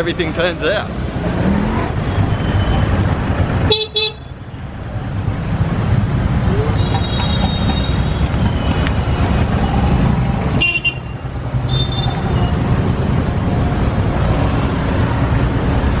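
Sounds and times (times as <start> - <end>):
car and motorbike engines: 0.0 - 16.0.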